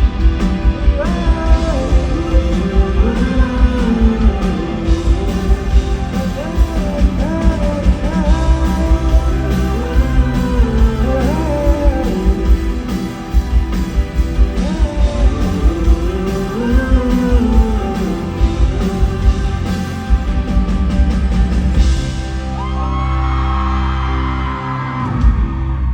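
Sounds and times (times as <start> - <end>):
person singing: 0.0 - 21.1
live rock band playing: 0.0 - 25.9.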